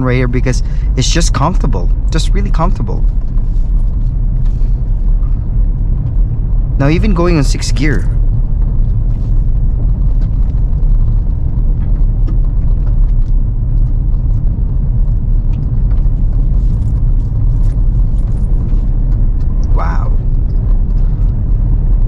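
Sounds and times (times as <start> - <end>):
engine and road noise in cab: 0.0 - 22.0.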